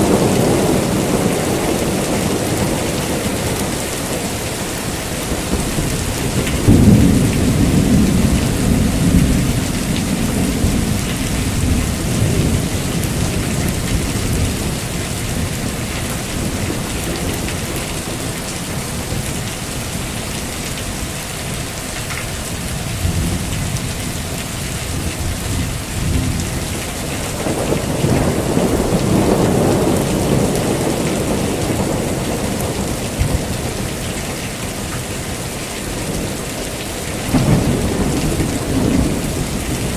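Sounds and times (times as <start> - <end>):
rolling thunder: 0.0 - 21.0, 22.5 - 39.9
heavy rain falling: 0.0 - 39.9.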